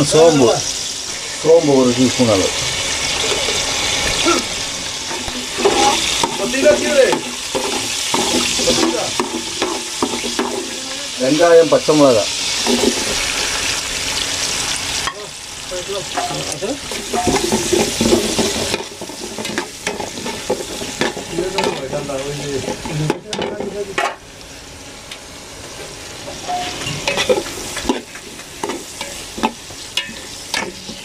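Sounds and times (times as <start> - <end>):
onions sizzling in hot oil: 0.0 - 31.0.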